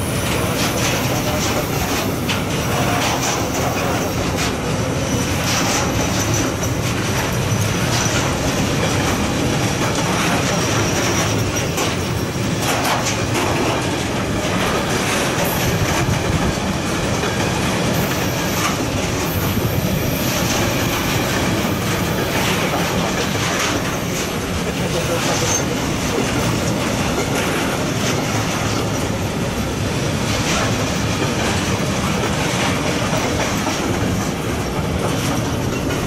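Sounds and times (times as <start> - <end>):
train wheels clattering over rail joints: 0.0 - 36.0.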